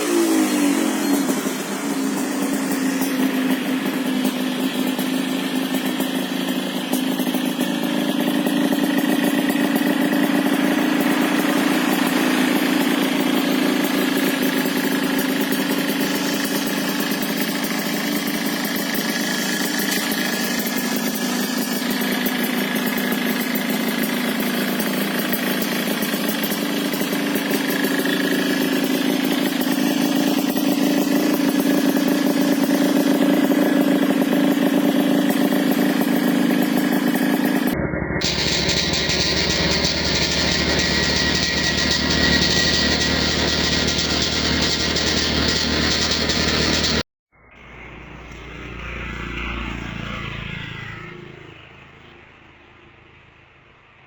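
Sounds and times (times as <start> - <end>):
motorcycle engine idling: 0.0 - 37.6, 38.2 - 47.0.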